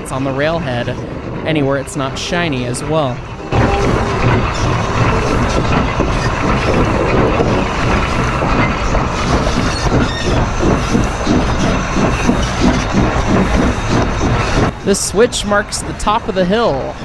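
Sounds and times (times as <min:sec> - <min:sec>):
steel wheels clattering on rail: 0:00.0 - 0:17.0
wheel flange rubbing rail: 0:00.0 - 0:17.0.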